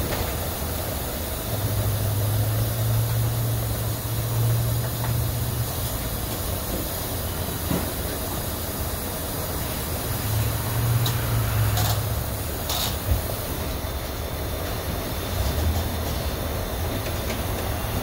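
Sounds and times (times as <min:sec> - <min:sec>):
fuel pumping hiss: 0:00.0 - 0:18.0.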